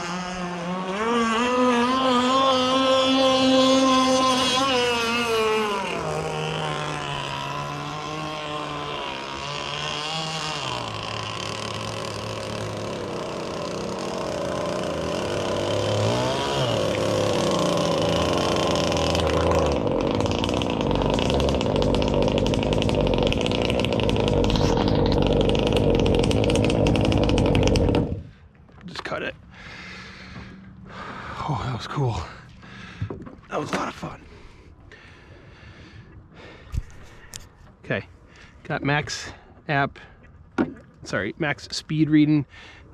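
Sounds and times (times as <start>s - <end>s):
two-stroke boat engine running: 0.0s - 38.6s.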